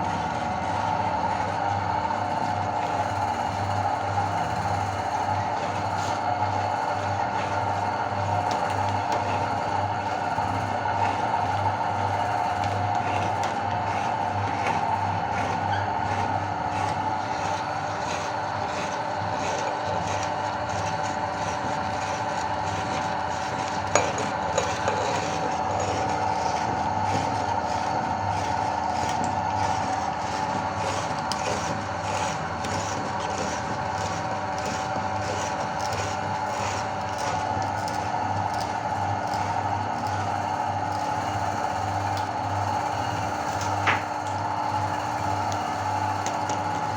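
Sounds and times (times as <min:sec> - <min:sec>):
electric meat grinder motor: 0:00.0 - 0:46.9.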